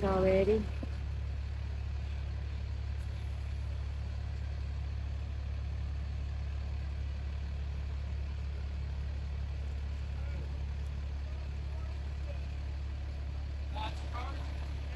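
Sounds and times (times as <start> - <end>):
fire engine idling: 0.0 - 14.9.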